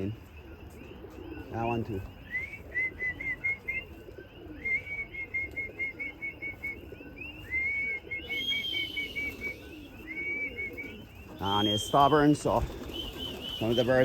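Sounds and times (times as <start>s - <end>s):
pigeon cooing: 0.0s - 14.0s.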